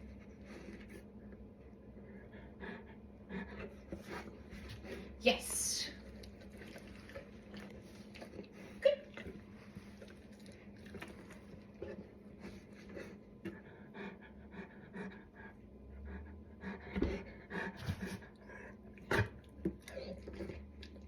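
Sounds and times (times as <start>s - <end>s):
dog panting: 0.0s - 5.2s, 6.1s - 19.4s.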